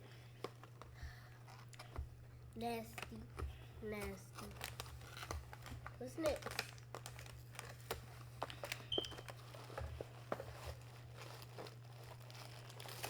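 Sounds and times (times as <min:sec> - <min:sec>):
snack packaging crinkling: 0:00.1 - 0:13.0.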